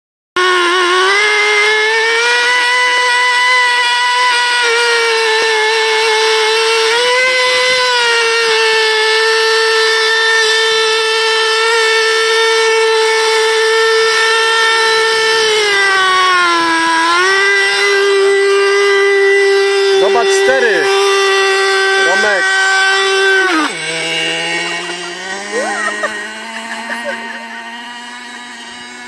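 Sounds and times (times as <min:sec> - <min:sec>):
model engine high-pitched whine: 0:00.4 - 0:29.0.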